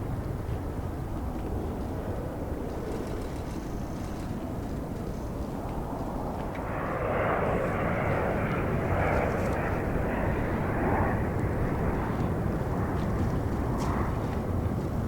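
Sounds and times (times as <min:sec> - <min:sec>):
jet airliner passing by: 0:00.0 - 0:15.0.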